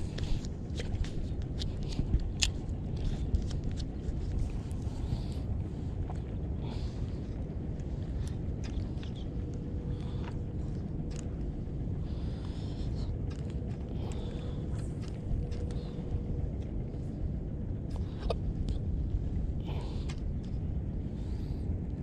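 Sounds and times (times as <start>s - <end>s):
faint clicks and ticks: 0.0s - 22.0s
wind rumbling on microphone: 0.0s - 22.0s.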